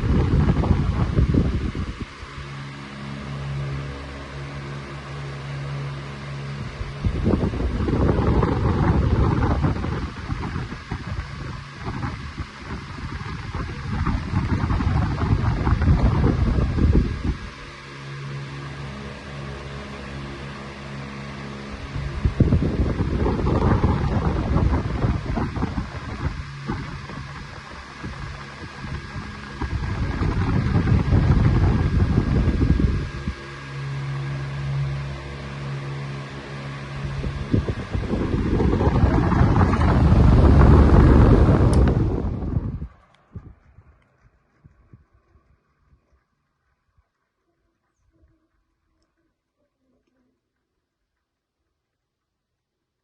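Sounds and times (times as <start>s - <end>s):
fan airflow rushing: 0.0s - 46.4s
fan motor hum: 0.0s - 51.3s.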